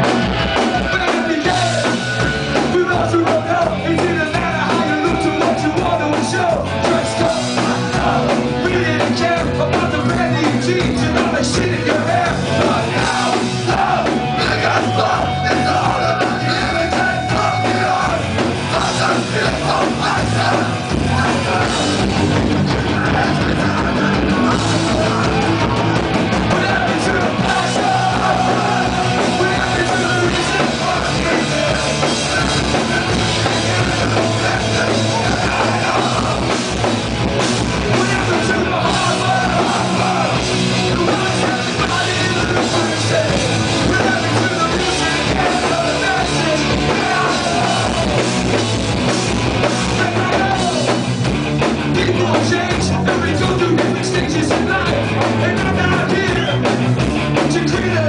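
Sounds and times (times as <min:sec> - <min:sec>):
punk band playing live: 0:00.0 - 0:58.0.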